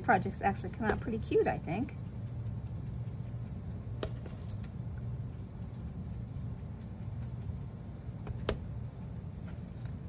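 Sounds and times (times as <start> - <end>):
foam tool dabbing on paper: 0.1 - 10.0.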